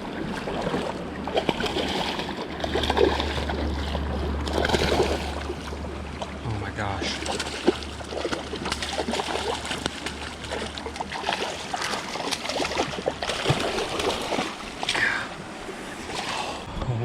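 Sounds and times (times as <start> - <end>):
fish splashing: 0.0 - 16.7
flowing water rushing: 0.0 - 16.7.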